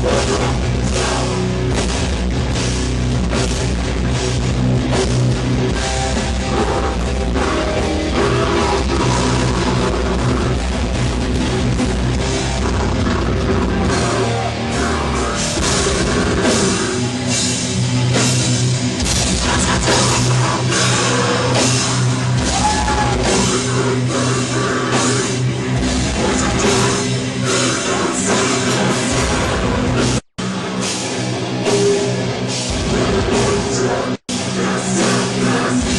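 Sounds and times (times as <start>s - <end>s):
heavy metal music: 0.0s - 35.9s.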